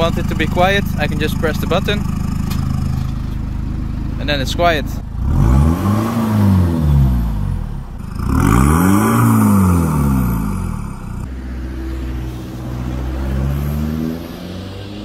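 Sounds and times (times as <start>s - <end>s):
car accelerating: 0.0s - 15.0s
car engine revving: 0.0s - 15.0s.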